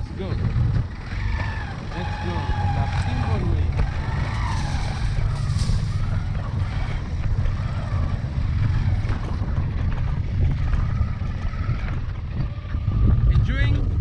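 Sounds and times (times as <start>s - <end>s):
vehicle running: 0.0s - 14.0s
wind buffeting microphone: 0.0s - 14.0s.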